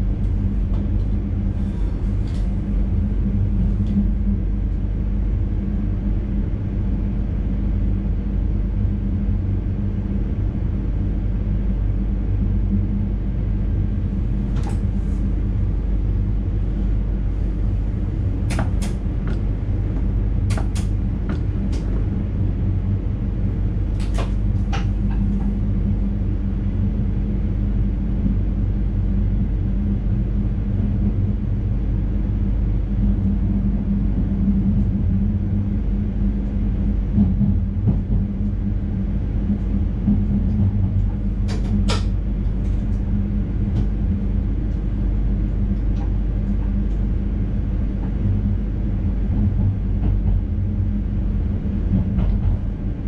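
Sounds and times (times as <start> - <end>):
train rumble and hum: 0.0 - 53.0.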